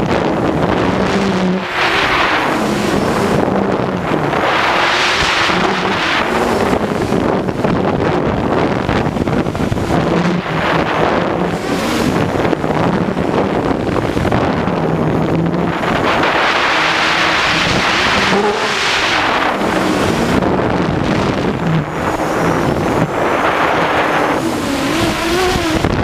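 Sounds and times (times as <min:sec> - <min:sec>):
drone propellers buzzing: 0:00.0 - 0:26.0
wind rush on microphone: 0:00.0 - 0:26.0.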